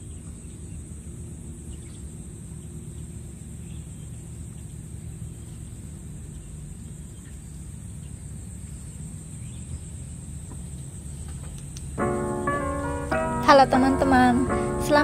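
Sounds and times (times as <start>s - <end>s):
low constant rumble: 0.0s - 15.0s.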